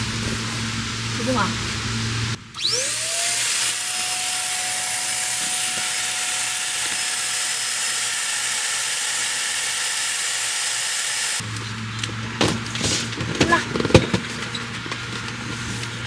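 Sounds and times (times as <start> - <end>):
small motor whining: 0.0 - 16.0.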